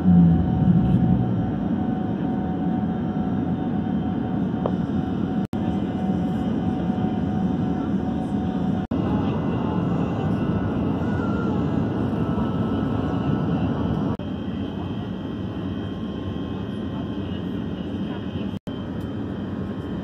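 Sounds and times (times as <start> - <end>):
airflow and engine rush: 0.0 - 20.0.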